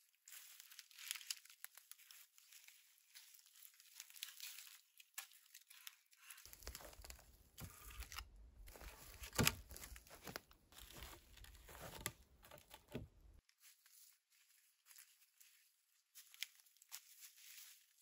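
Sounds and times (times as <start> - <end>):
rustling of dry bark and litter: 0.0 - 18.0.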